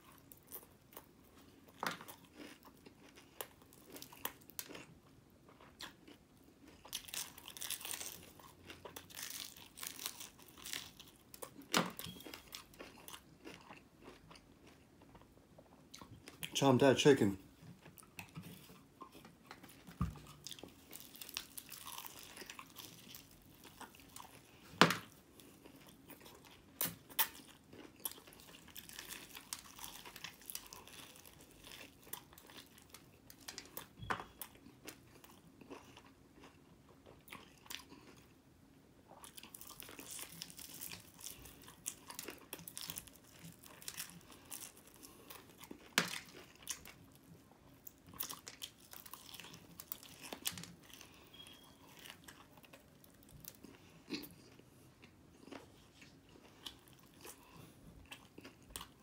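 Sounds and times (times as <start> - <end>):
crunchy chewing: 0.0 - 16.6, 17.8 - 38.3, 39.2 - 59.0.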